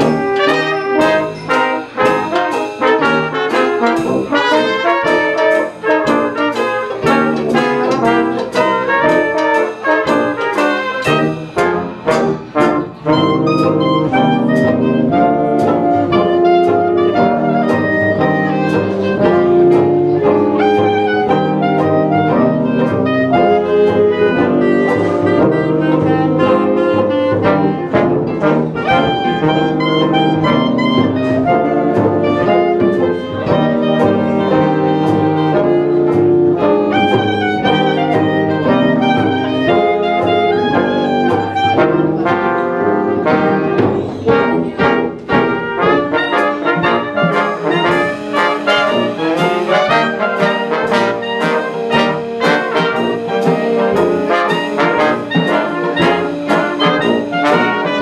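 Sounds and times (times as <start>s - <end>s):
jazz band playing: 0.0s - 58.0s.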